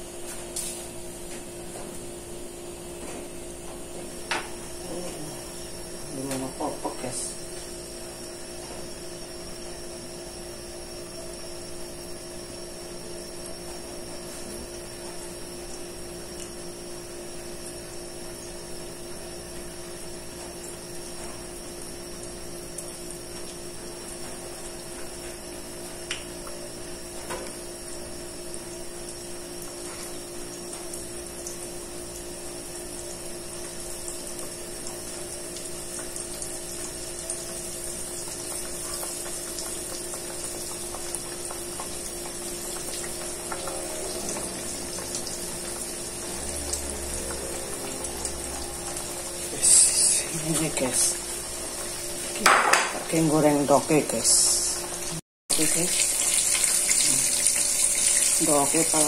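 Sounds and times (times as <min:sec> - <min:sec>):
food deep-frying in oil: 0:00.0 - 0:59.0
steady hum: 0:00.0 - 0:59.0.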